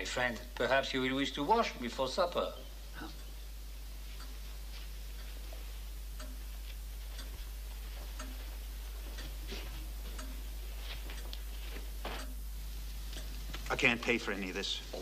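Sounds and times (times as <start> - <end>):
pendulum clock ticking: 0.0 - 15.0
steady low hum: 0.0 - 15.0.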